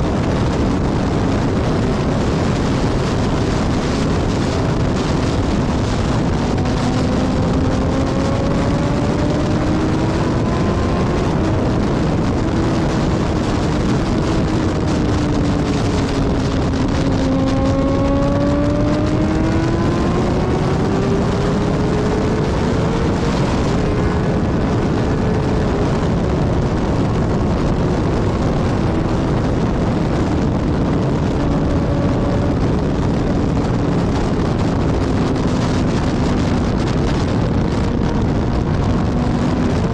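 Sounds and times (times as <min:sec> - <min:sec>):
strong howling wind: 0:00.0 - 0:39.9.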